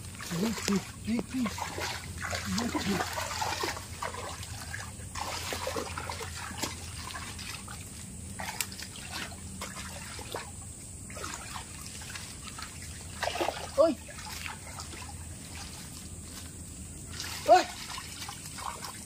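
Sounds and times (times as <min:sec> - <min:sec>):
feet splashing through water: 0:00.0 - 0:19.0
water trickling in stream: 0:00.0 - 0:19.0.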